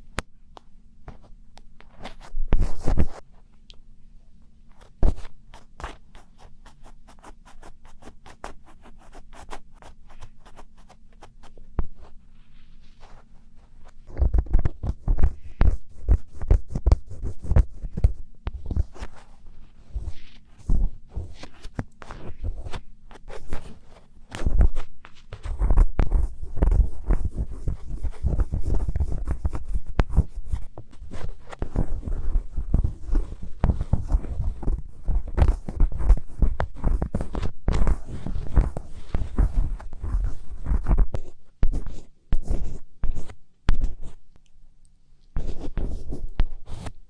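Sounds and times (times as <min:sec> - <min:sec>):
rapid scratching and scraping: 0:04.8 - 0:44.2.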